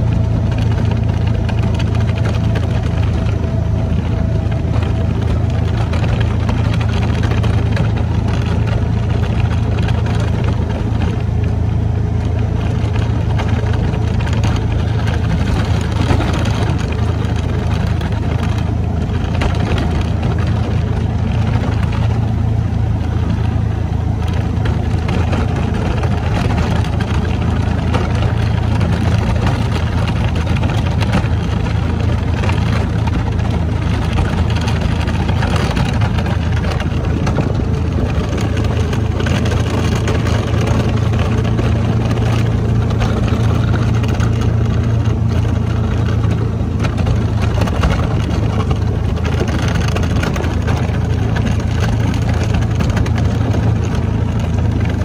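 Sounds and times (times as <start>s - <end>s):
utility vehicle engine humming: 0.0s - 55.0s.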